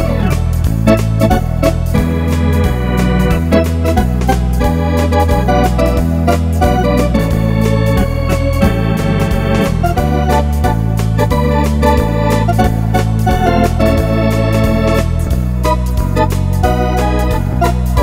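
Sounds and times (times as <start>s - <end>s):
electronic organ playing foxtrot: 0.0s - 18.0s.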